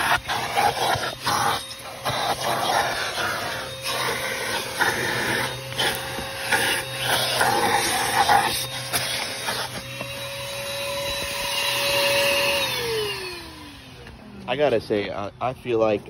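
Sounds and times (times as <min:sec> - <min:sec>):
vacuum sucking dirt rattle: 0:00.0 - 0:15.1
shop vacuum motor whine: 0:00.0 - 0:16.0.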